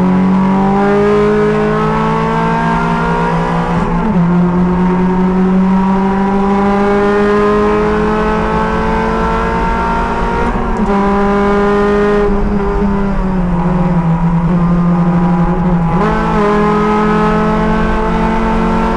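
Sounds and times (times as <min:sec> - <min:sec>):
race car engine at full throttle: 0:00.0 - 0:18.9
road and wind noise: 0:00.0 - 0:18.9.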